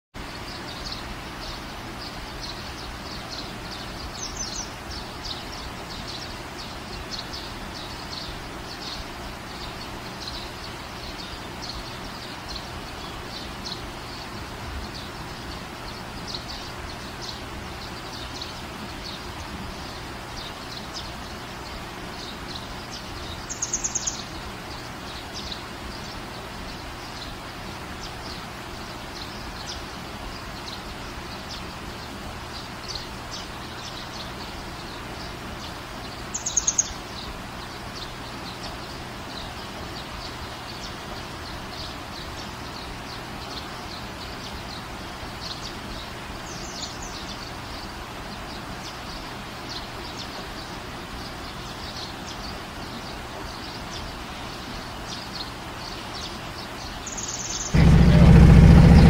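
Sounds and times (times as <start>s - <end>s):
outdoor background hum: 0.2s - 59.0s
small birds chirping: 0.2s - 59.0s.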